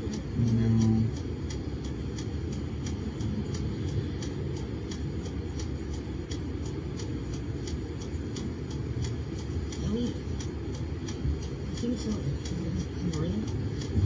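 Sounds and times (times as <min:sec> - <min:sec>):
low rumble inside van cabin: 0:00.0 - 0:03.8, 0:04.5 - 0:14.0
turn signal ticking: 0:00.0 - 0:14.0.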